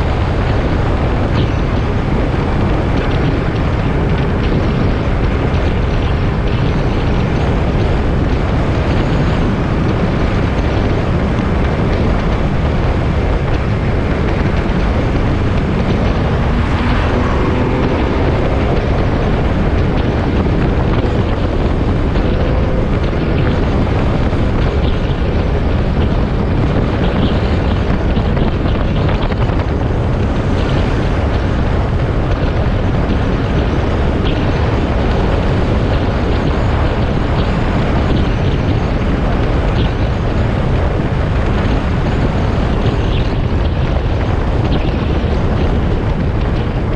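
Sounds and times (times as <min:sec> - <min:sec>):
motorcycle engine and tyre noise: 0:00.0 - 0:46.9
wind rushing over microphone: 0:00.0 - 0:46.9.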